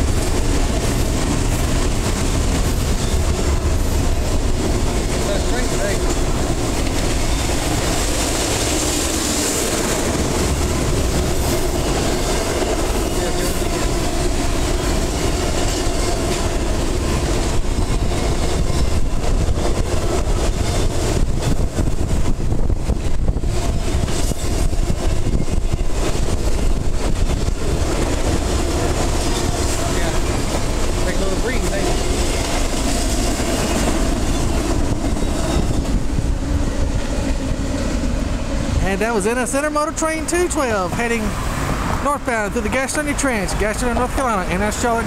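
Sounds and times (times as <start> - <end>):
freight train rumbling on rails: 0.0 - 45.0.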